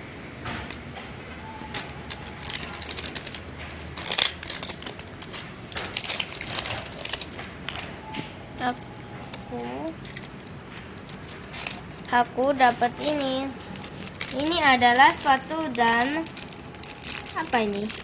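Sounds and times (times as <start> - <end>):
plastic wrapping tearing and crinkling: 1.7 - 8.0, 8.6 - 18.0.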